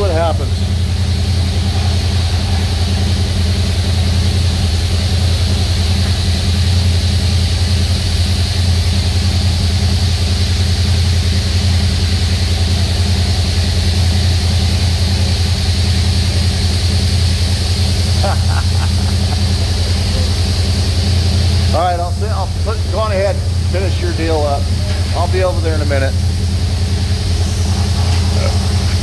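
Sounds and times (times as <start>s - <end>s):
car wash machine hum: 0.0s - 29.0s
high-pressure water spraying: 0.0s - 29.0s.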